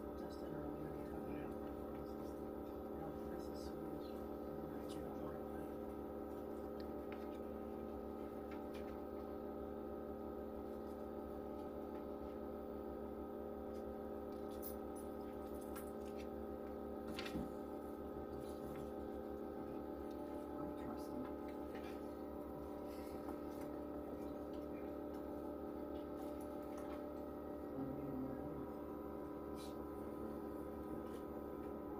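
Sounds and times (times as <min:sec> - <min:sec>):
machine humming: 0:00.0 - 0:31.9.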